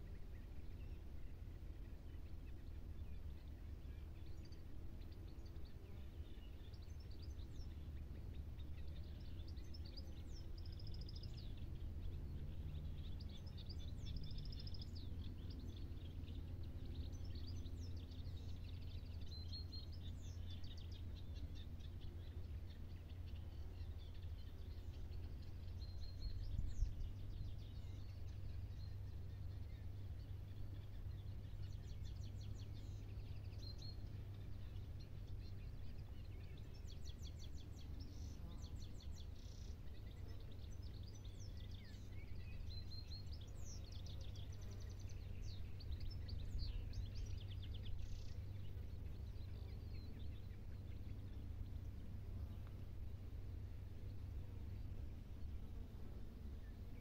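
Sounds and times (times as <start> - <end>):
small birds singing and chirping: 0.0 - 57.0
steady low rumble: 0.0 - 57.0.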